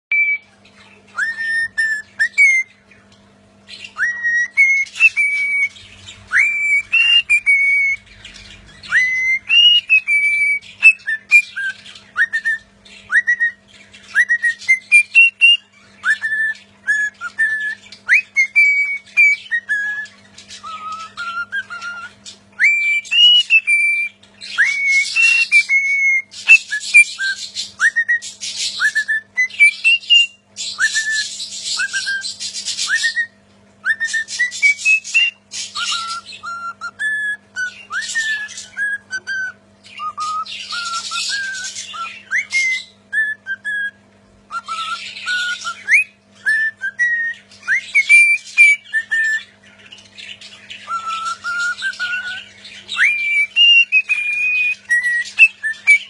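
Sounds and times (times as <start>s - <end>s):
bird whistling a melody: 0.1s - 56.0s.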